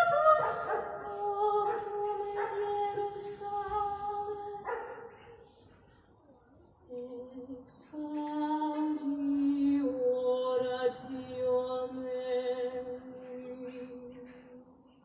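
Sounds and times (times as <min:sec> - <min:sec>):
woman singing wordless notes: 0:00.0 - 0:05.0, 0:06.9 - 0:14.7.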